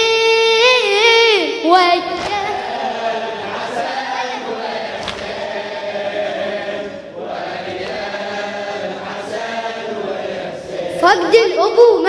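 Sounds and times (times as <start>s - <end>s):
choir chanting long held tones: 0.0s - 11.8s.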